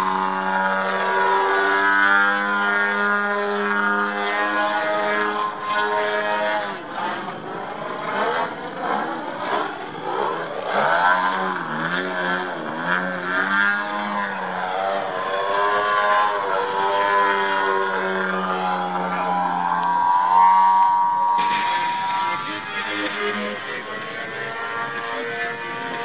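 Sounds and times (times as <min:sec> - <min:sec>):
model plane engine running hard: 0:00.0 - 0:26.0.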